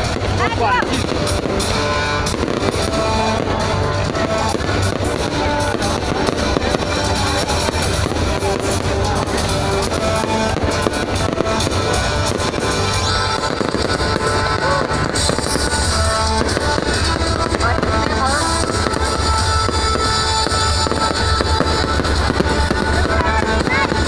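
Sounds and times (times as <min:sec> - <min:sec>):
fireworks bursting and crackling: 0:00.0 - 0:24.0
music with steady bass: 0:00.0 - 0:24.0.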